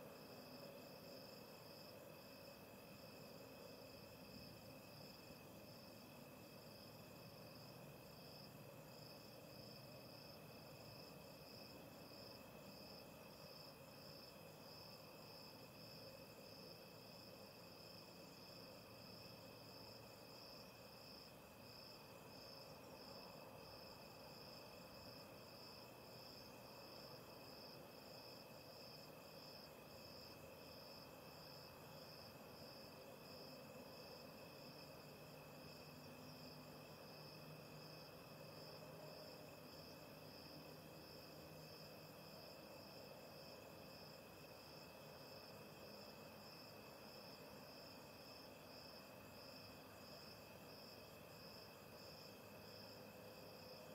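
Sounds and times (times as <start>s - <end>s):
crickets chirping: 0.0s - 53.9s
steady high insect trill: 0.0s - 53.9s.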